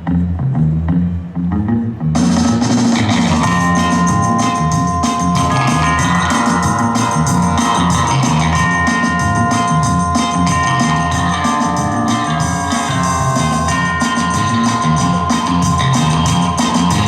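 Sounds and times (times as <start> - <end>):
steady drum beat: 2.2 - 17.0
long held musical tones: 3.3 - 17.0.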